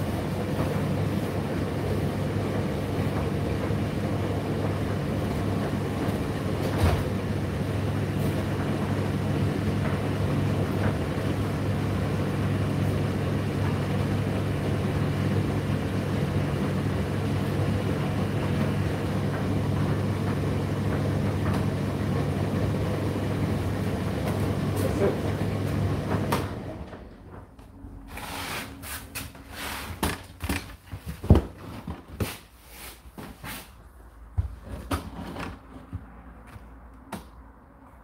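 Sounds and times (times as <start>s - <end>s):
tumble dryer running: 0.0s - 32.1s.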